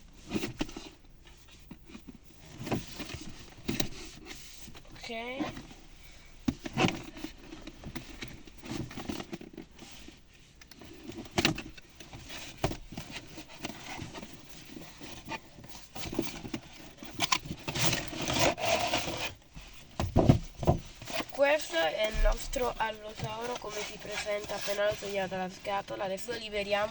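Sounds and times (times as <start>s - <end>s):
cardboard and plastic packaging handled: 0.0s - 26.9s.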